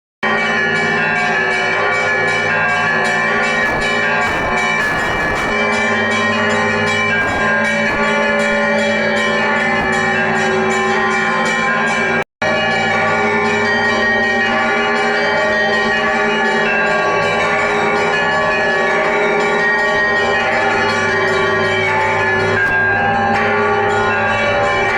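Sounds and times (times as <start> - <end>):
church bells pealing: 0.2 - 24.9.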